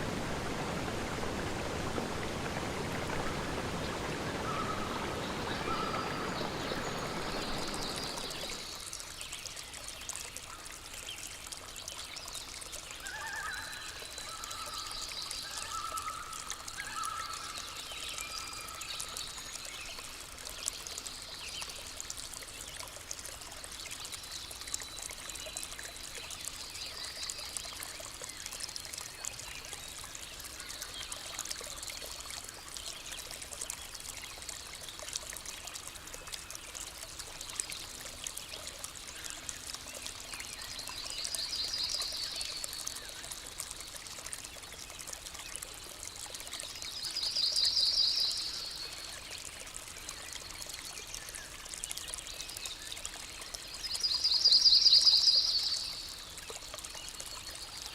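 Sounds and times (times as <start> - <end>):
stream flowing: 0.0 - 57.9.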